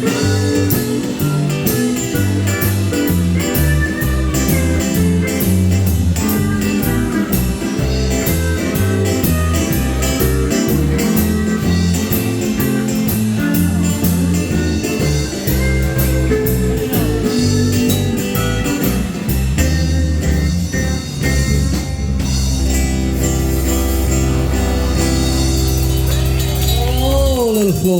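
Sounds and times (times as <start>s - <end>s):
bass and drums beat: 0.0s - 27.9s
lead guitar melody: 0.0s - 27.9s.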